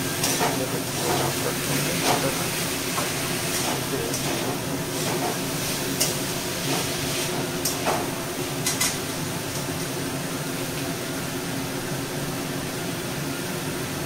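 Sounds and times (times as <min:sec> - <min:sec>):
frying sizzling hiss: 0:00.0 - 0:13.9.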